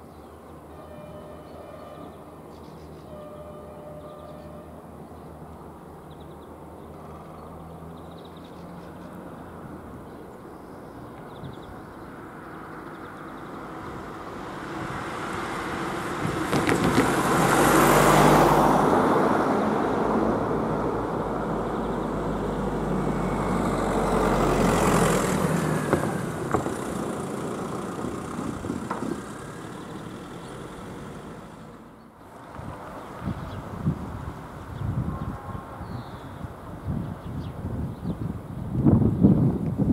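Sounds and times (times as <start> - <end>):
vehicles passing close by: 0.0 - 39.9.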